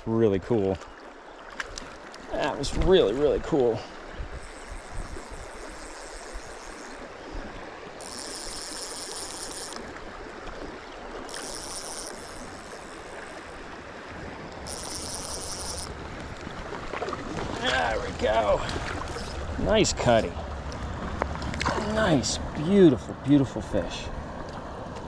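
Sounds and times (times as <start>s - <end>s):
stream running over riffles: 0.0s - 25.0s.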